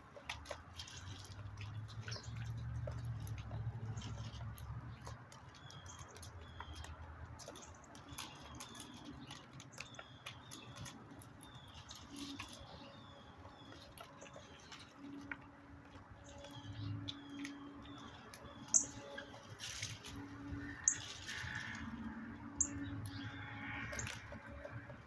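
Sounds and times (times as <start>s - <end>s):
small birds chirping: 0.8s - 15.3s, 16.1s - 25.0s.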